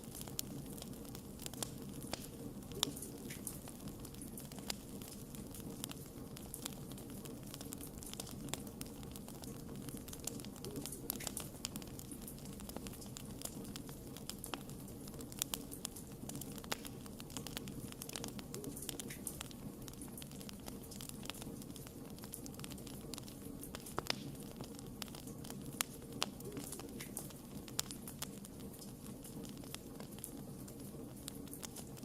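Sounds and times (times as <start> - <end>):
burning wood crackling and popping: 0.0 - 32.0
low rumble of flames: 0.0 - 32.0.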